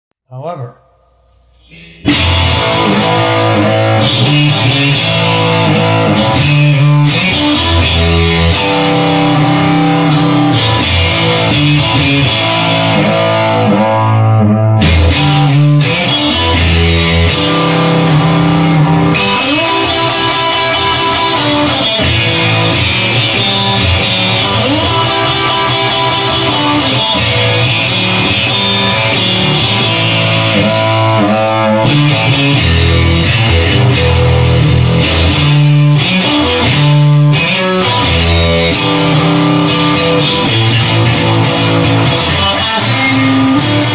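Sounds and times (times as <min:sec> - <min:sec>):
bass guitar: 0:00.3 - 0:43.9
rock electric guitar: 0:01.6 - 0:43.9.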